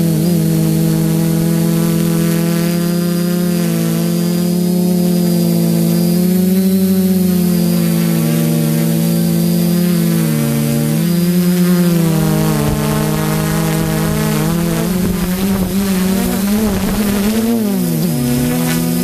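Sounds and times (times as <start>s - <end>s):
drone motors buzzing: 0.0s - 19.0s.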